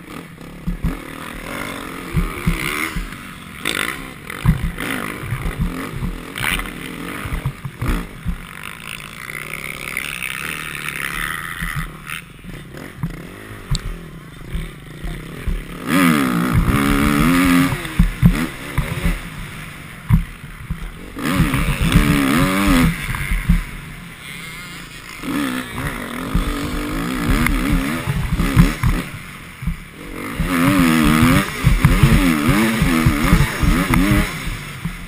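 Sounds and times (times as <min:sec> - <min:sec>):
motocross bike engine revving: 0:00.0 - 0:35.0.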